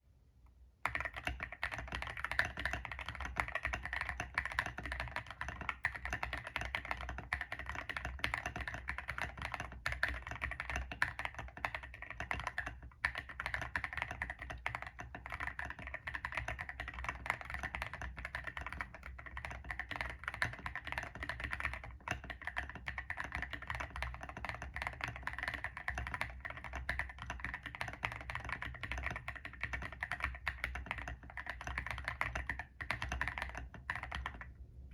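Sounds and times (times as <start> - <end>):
fast typing on mechanical keyboard: 0.8 - 34.5.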